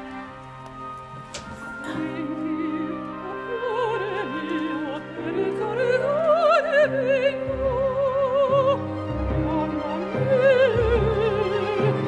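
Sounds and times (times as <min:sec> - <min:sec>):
operatic singing: 0:00.0 - 0:12.0
orchestral accompaniment: 0:00.0 - 0:12.0.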